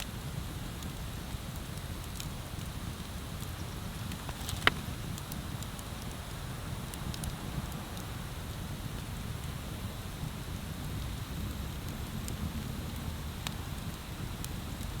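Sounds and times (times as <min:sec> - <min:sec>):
bonfire crackling and popping: 0:00.1 - 0:15.0.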